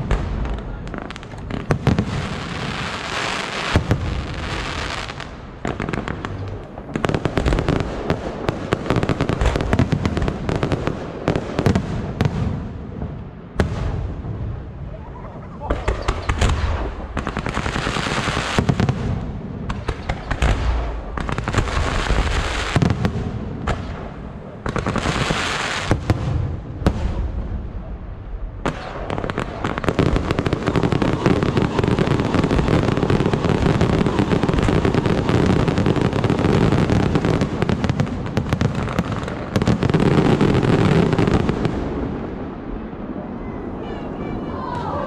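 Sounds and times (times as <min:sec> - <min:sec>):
fireworks crackling: 0:00.0 - 0:27.4, 0:28.5 - 0:45.0
fireworks bangs: 0:00.0 - 0:45.0.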